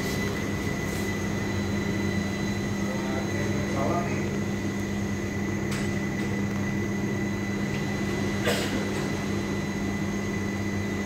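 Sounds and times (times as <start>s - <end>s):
cash machine humming: 0.0s - 11.0s.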